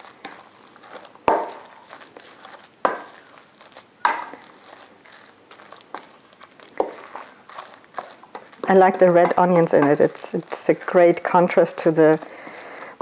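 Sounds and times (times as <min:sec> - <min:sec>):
wooden spoon stirring wet mixture: 0:00.0 - 0:13.0.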